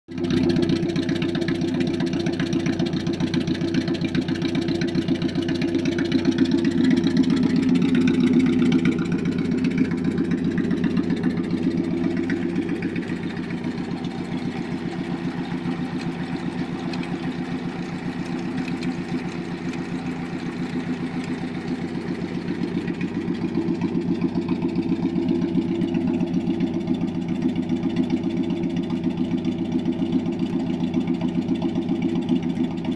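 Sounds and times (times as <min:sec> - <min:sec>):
car engine idling: 0:00.1 - 0:32.9.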